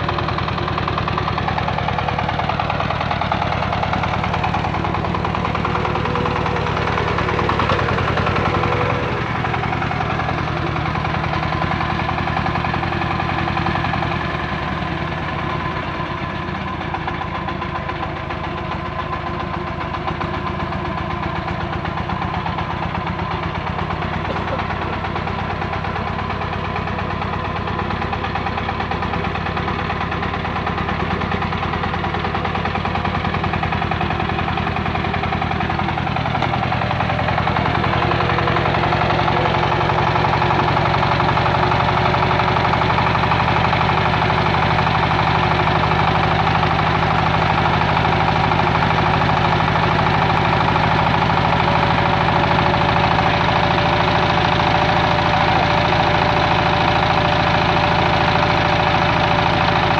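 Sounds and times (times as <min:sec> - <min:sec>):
generator engine running: 0:00.0 - 0:59.9.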